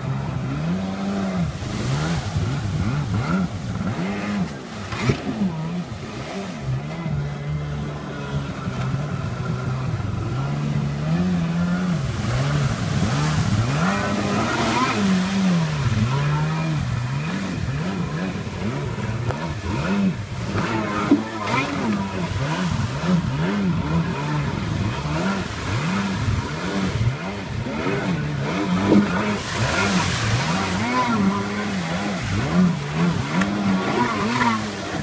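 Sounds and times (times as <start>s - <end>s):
jet ski engine revving: 0.0s - 35.0s
water spray splashing: 0.0s - 35.0s.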